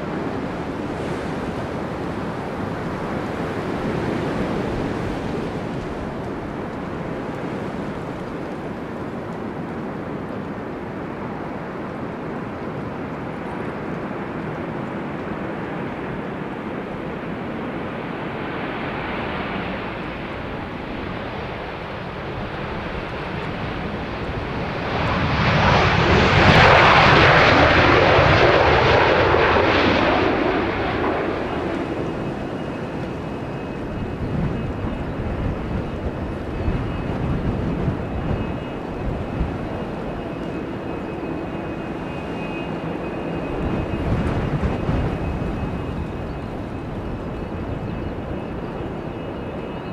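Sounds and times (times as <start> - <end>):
high jet engine whine: 0.0 - 49.9
jet airliner engine roar: 0.0 - 49.9.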